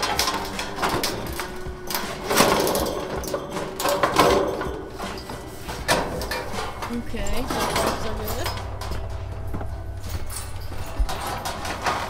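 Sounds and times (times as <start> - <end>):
metal panel rattling and scraping: 0.0 - 12.0.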